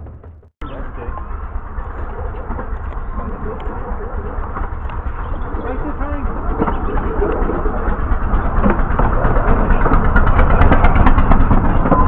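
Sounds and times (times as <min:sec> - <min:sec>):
small train engine rumbling: 0:00.0 - 0:12.0
train clicks: 0:00.0 - 0:12.0.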